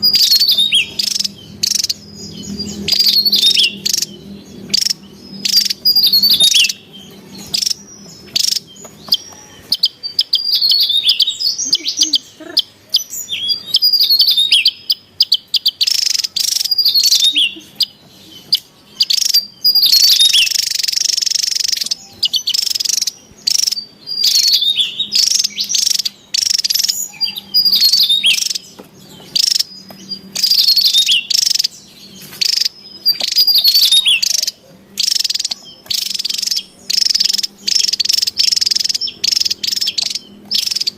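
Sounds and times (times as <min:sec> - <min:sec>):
bird twittering: 0:00.0 - 0:40.9
insects chirring: 0:00.0 - 0:40.9.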